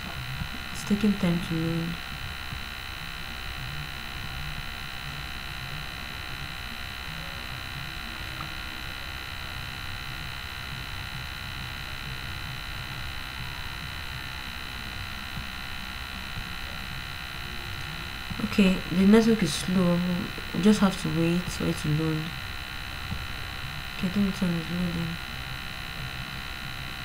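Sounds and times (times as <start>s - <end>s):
electrical hum and buzz: 0.0s - 27.0s.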